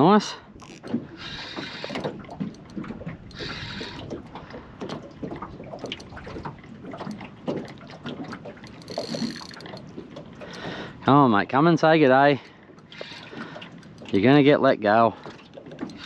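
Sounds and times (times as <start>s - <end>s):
water splashing near boat: 0.0s - 16.0s.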